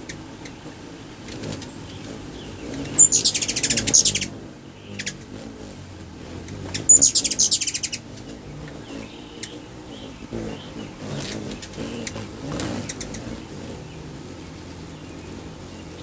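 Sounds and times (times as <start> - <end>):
hummingbirds chattering: 0.0 - 16.0.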